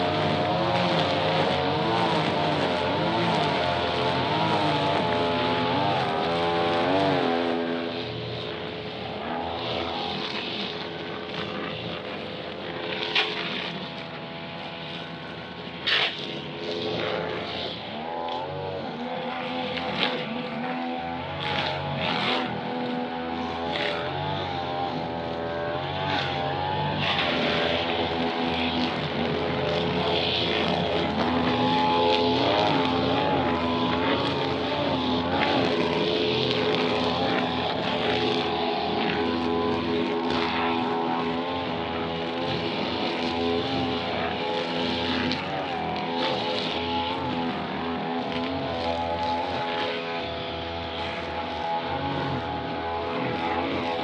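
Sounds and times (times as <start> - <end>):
brush cutter engine at high revs: 0.0 - 54.0.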